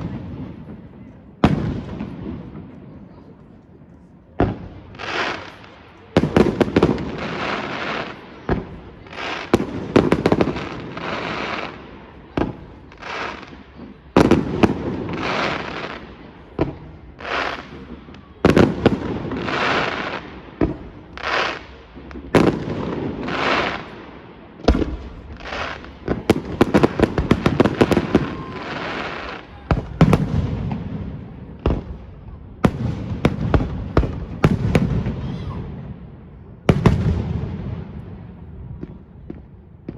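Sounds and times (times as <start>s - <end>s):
small firework pops: 0.0s - 35.6s, 36.7s - 39.9s.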